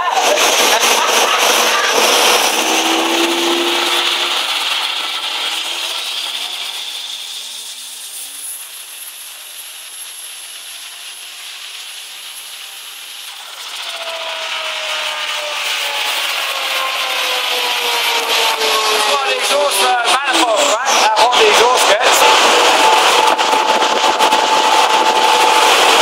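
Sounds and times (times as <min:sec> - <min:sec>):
turbocharged engine running: 0:00.0 - 0:26.0.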